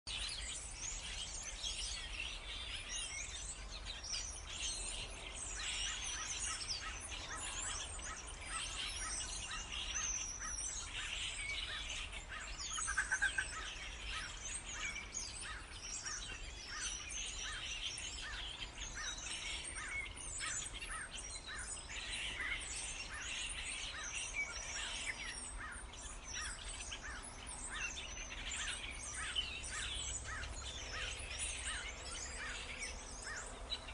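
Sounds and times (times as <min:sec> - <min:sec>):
starlings chattering: 0:00.1 - 0:33.9.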